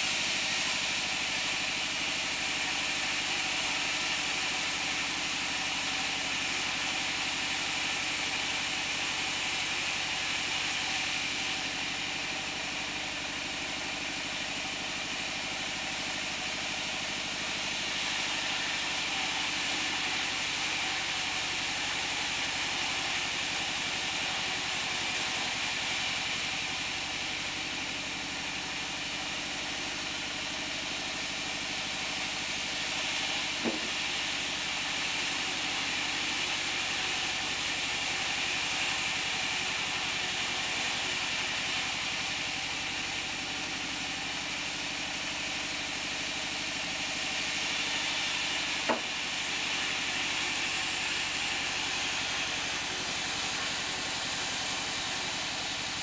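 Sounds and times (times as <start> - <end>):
band sawmill whirring: 0.0 - 56.0.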